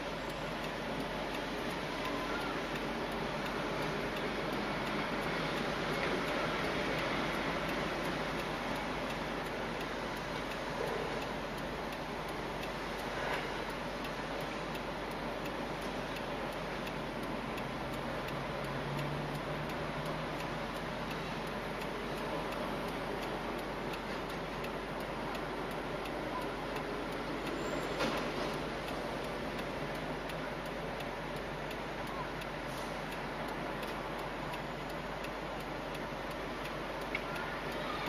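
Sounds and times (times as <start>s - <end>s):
steady ticking: 0.0s - 38.0s.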